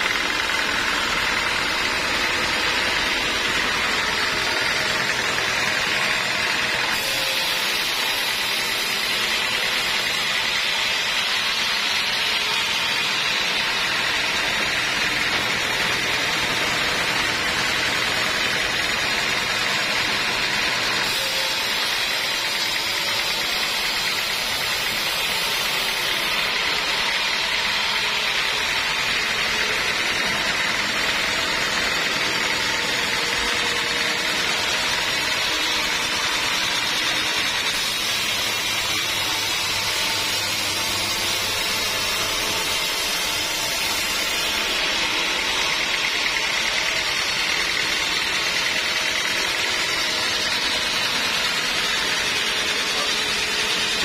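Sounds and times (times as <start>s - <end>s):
band sawmill cutting a log: 0.0s - 54.0s.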